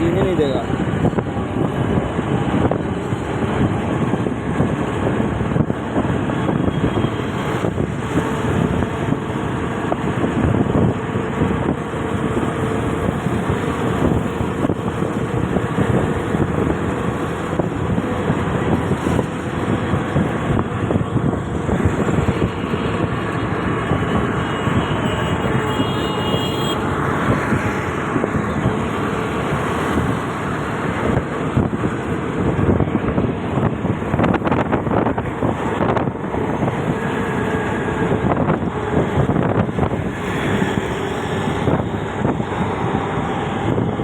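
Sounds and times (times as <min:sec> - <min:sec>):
train rumbling and rattling: 0:00.0 - 0:25.7, 0:26.8 - 0:44.0.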